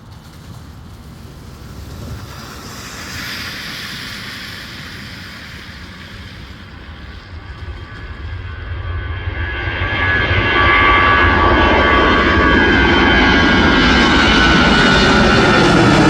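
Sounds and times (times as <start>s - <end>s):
aircraft engine rushing: 0.0s - 16.0s
steady low rumble: 0.0s - 16.0s.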